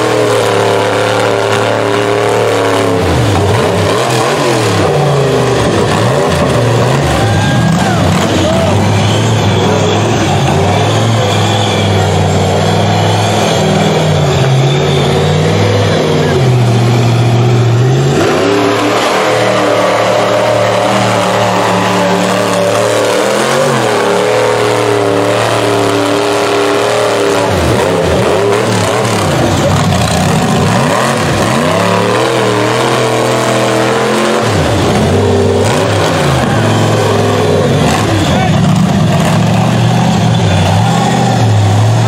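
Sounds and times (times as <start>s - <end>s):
buggy engine revving hard: 0.0s - 42.0s.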